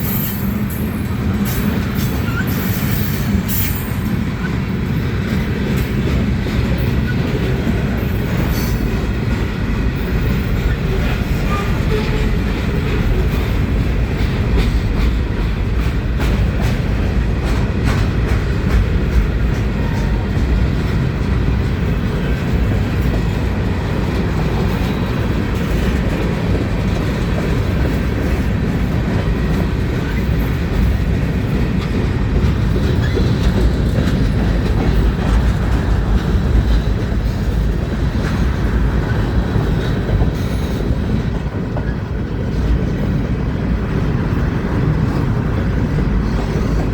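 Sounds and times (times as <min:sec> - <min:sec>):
wheels clacking over rail joints: 0:00.0 - 0:46.9.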